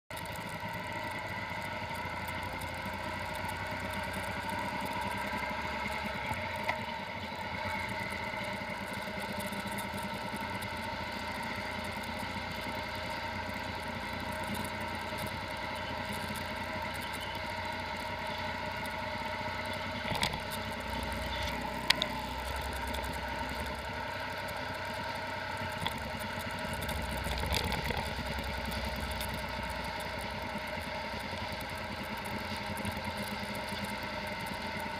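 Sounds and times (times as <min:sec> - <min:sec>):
motorcycle engine cruising: 0:00.1 - 0:34.9
road and wind noise: 0:00.1 - 0:34.9.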